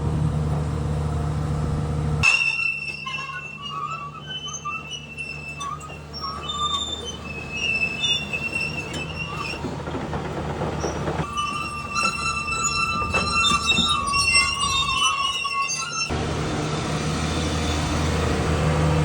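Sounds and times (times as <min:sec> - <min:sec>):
metal-on-metal squealing: 0:02.2 - 0:18.2.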